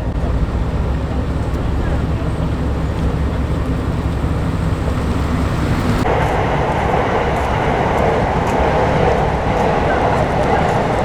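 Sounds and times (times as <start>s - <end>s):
car engines idling: 0.0s - 11.0s
dense high exhaust noise: 0.0s - 11.0s.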